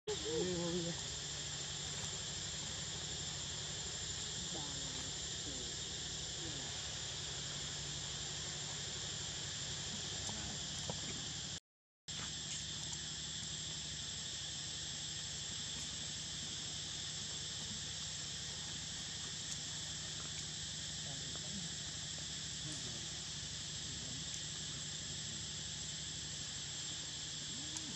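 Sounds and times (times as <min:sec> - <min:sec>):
insect chorus shrilling: 0:00.1 - 0:27.9.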